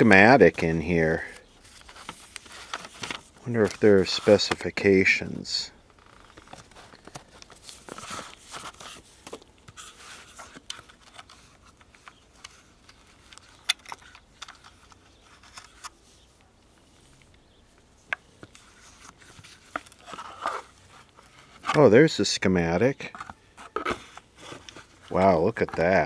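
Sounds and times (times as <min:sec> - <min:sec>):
paper and cardboard rustling: 0:00.0 - 0:05.0, 0:06.0 - 0:16.3, 0:18.1 - 0:22.1, 0:23.0 - 0:26.0.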